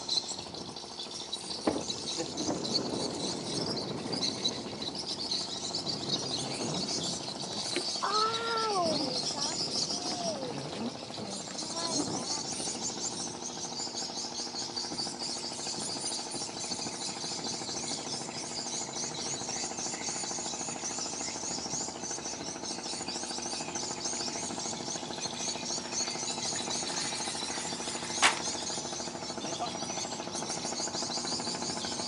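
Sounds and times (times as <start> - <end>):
insects chirping: 0.0 - 32.0
low pulsing drone: 0.0 - 32.0.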